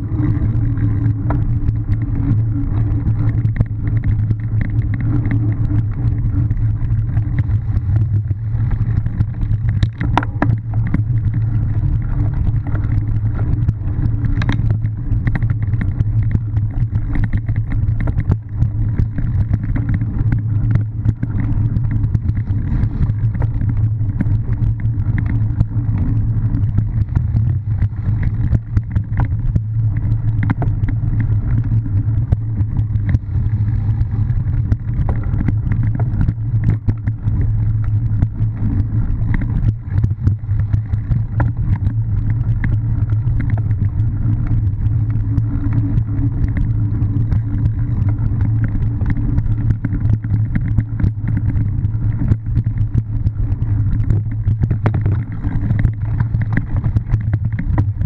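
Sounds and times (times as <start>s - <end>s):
bike rattles and knocks: 0.0s - 58.0s
muffled wind rumble: 0.0s - 58.0s.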